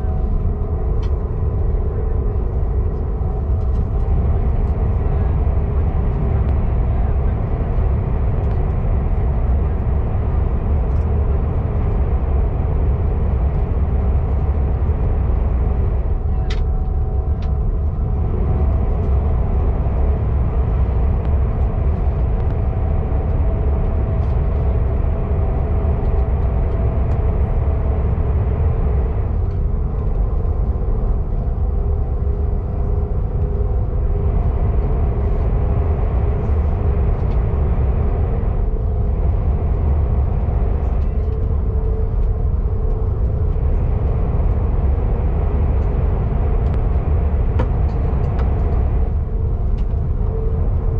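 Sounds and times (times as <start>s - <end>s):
faint steady tones: 0.0s - 50.9s
train running rumble: 0.0s - 50.9s.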